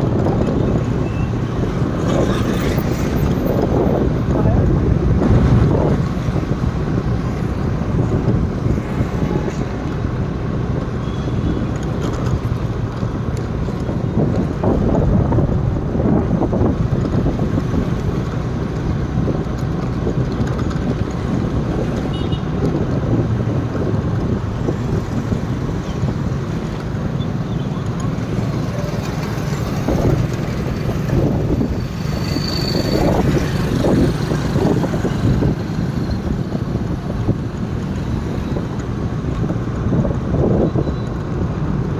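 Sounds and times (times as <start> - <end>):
vehicle road noise rumble: 0.0 - 41.9.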